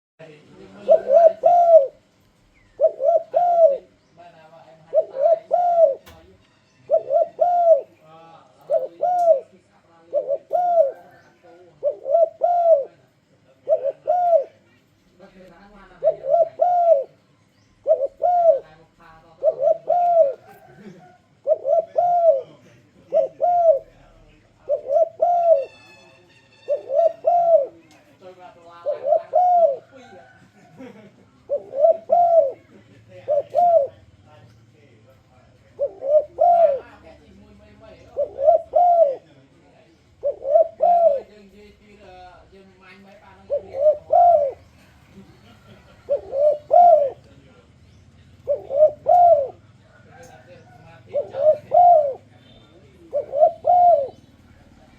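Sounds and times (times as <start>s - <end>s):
dove cooing: 0.5s - 26.1s, 26.7s - 34.4s, 35.2s - 54.9s.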